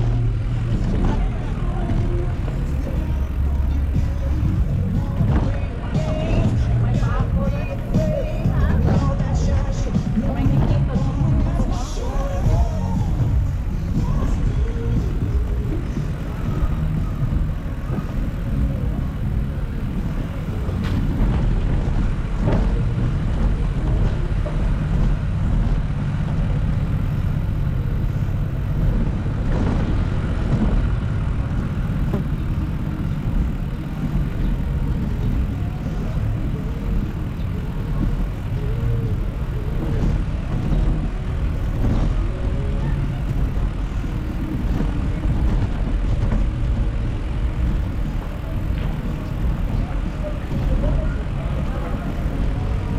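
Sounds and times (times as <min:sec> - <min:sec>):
rumble of passing cars and motorbikes: 0:00.0 - 0:52.9.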